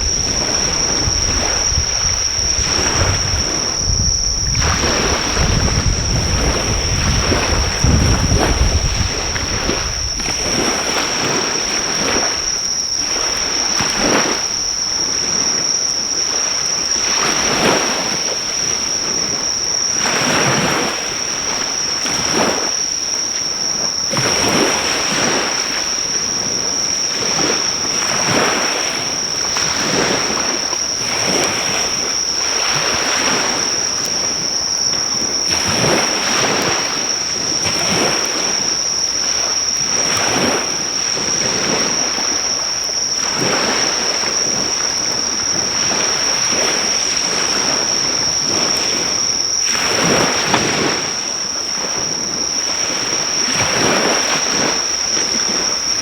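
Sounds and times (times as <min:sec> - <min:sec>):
insects chirring: 0:00.0 - 0:56.0
sea waves breaking on shore: 0:00.0 - 0:56.0.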